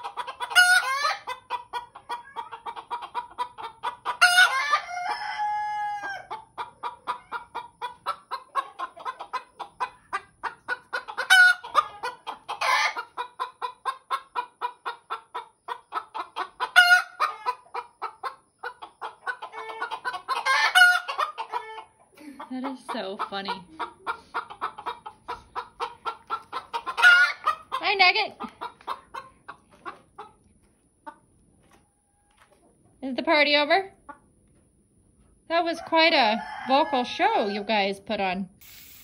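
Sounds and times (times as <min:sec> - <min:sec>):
hens clucking: 0:00.0 - 0:38.3.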